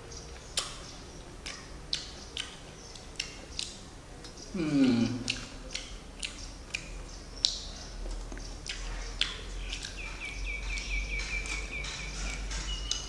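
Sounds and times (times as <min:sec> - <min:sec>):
man eating mouth sounds: 0:00.4 - 0:13.0.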